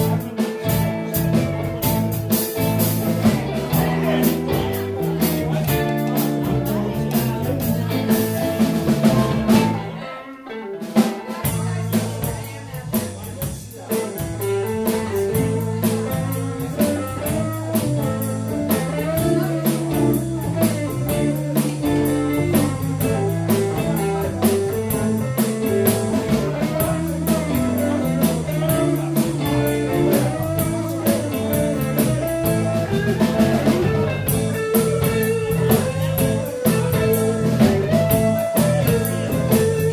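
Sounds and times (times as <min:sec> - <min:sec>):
electric blues band playing: 0:00.0 - 0:39.9.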